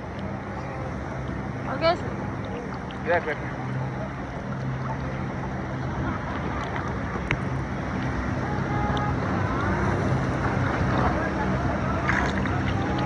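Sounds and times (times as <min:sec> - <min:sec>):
boat engine running: 0:00.0 - 0:13.0
wind and water rushing: 0:00.0 - 0:13.0.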